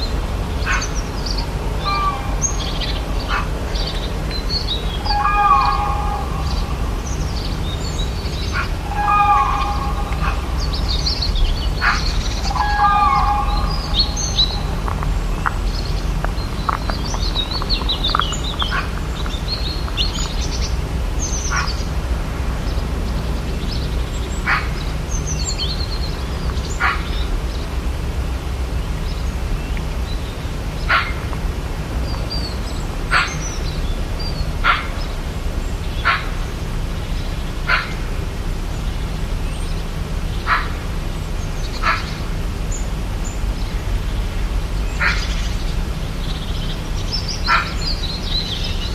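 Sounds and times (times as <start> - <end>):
birds chirping: 0.0 - 48.9
low rumble: 0.0 - 48.9.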